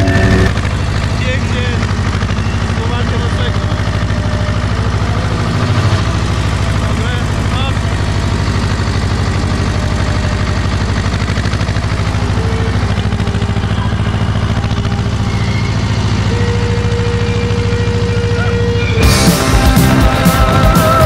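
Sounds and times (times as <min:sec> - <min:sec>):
tractor engine chugging: 0:00.0 - 0:21.0.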